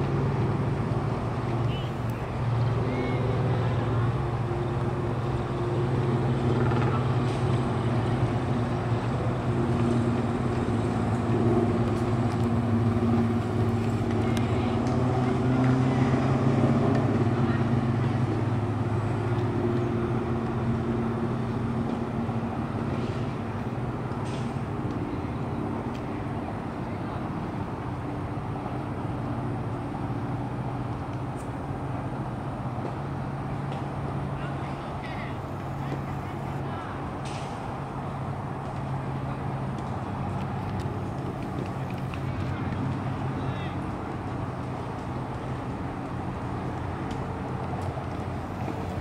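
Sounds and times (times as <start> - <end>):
boat engine humming: 0.0 - 49.0.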